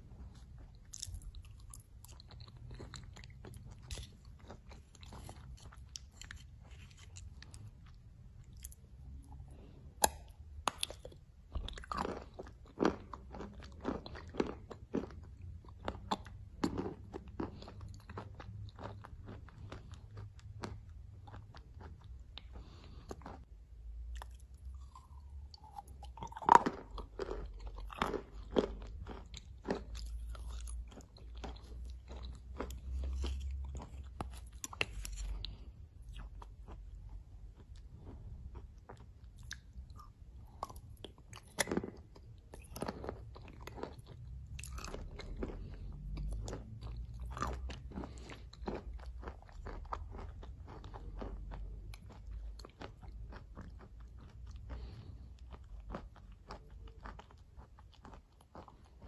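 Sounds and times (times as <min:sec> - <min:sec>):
person chewing and crunching: 0:00.0 - 0:59.0.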